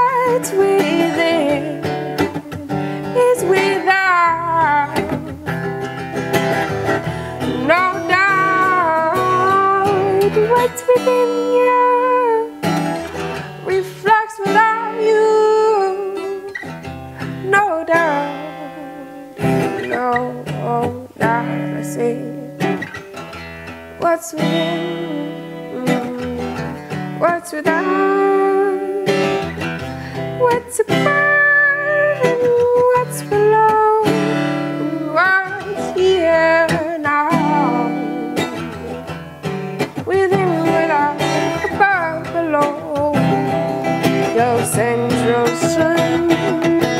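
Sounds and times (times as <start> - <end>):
woman singing: 0.0 - 23.0, 23.6 - 46.9
acoustic guitar strummed and picked: 0.0 - 46.9.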